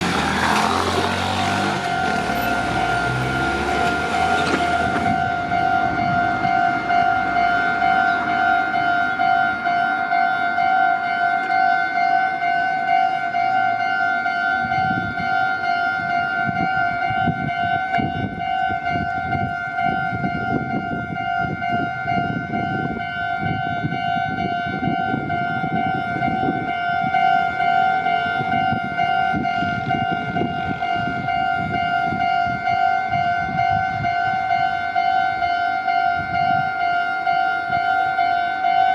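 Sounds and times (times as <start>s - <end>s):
level crossing warning bell: 0.0s - 38.9s
passing train rumble and clatter: 0.0s - 38.9s.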